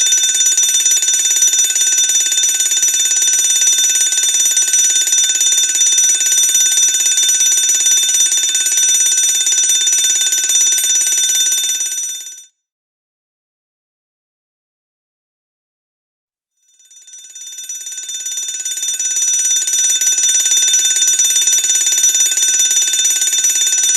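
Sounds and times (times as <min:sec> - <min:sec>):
fire alarm bell ringing: 0:00.0 - 0:12.5, 0:16.7 - 0:23.9.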